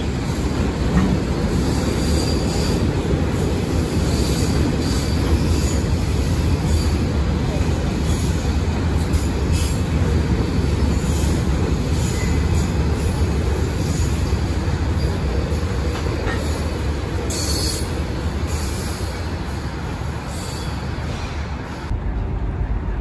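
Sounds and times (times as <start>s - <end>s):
train rumbling on rails: 0.0s - 23.0s.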